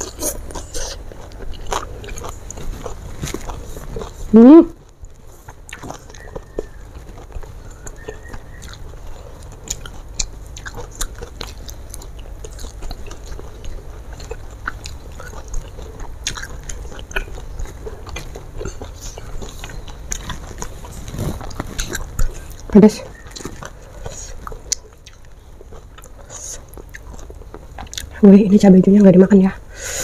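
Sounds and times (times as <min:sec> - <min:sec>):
person chewing crunchy food: 0:00.0 - 0:28.2
low steady hum: 0:00.0 - 0:30.0.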